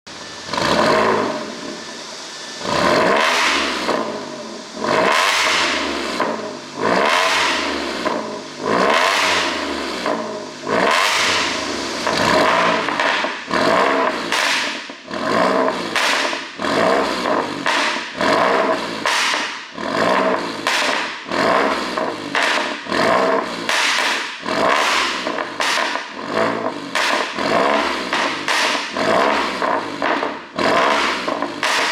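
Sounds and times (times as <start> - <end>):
car engine revving: 0.0 - 31.9
exhaust pops and crackles: 2.6 - 31.9.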